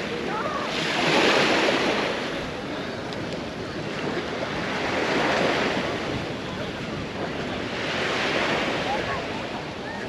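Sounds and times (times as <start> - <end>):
small waves breaking on shore: 0.0 - 10.0.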